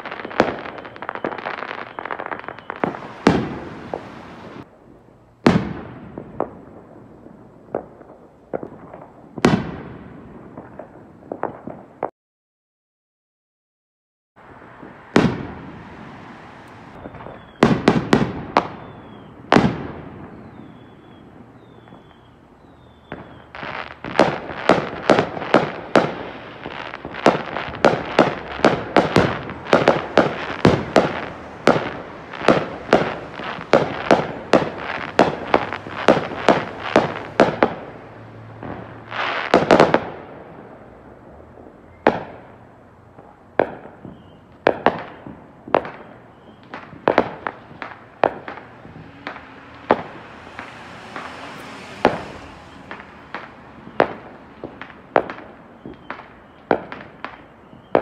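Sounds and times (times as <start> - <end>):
fireworks bangs: 0.0 - 12.1, 14.4 - 58.0.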